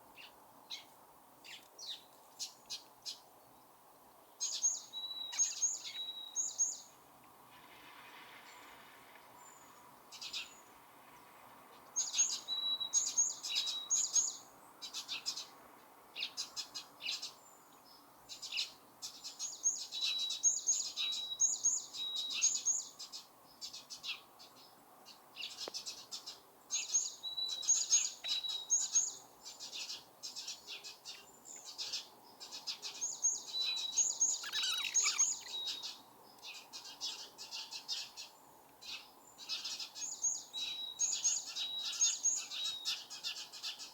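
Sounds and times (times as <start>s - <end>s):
songbirds chirping: 0.0s - 7.5s, 8.4s - 43.9s
faint outdoor background noise: 0.0s - 43.9s.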